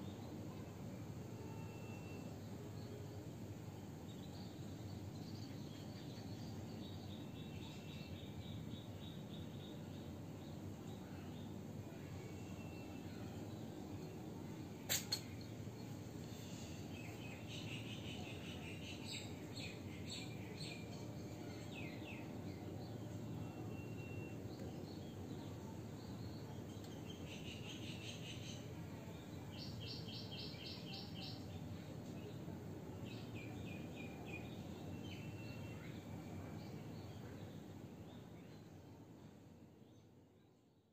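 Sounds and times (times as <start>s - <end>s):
low background noise: 0.0s - 40.9s.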